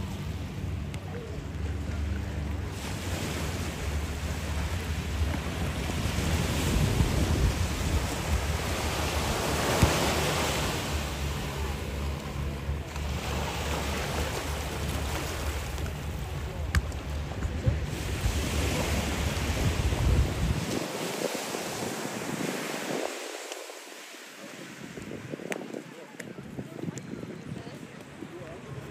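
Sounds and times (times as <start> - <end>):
sea waves washing on beach: 0.0 - 28.9
wind rumbling on microphone: 0.0 - 28.9.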